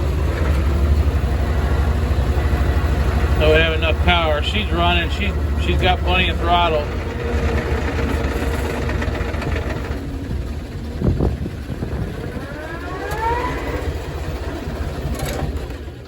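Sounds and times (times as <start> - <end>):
bulldozer engine under load: 0.0 - 16.0
rising whine: 0.0 - 16.0.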